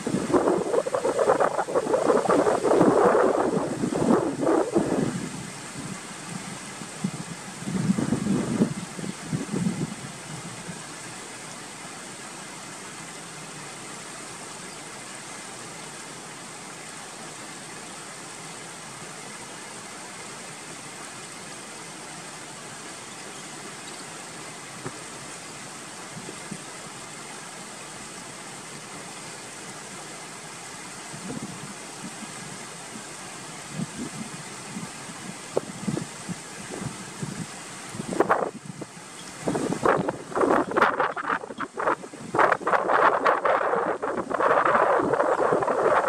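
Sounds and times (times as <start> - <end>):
stream flowing over rocks: 0.0 - 46.0.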